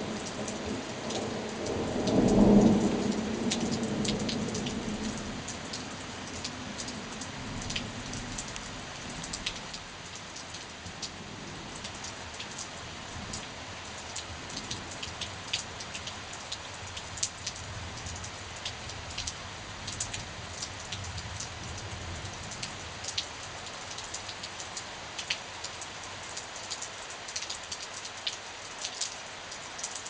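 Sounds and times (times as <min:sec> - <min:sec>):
heavy rain falling: 0:00.0 - 0:30.0
raindrops tapping close by: 0:00.0 - 0:30.0.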